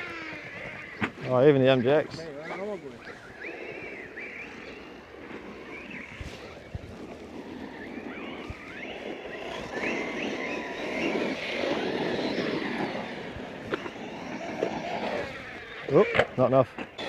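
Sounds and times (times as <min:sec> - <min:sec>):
electric motor whining: 0:00.0 - 0:17.0
tyres scrabbling on dirt: 0:00.0 - 0:17.0.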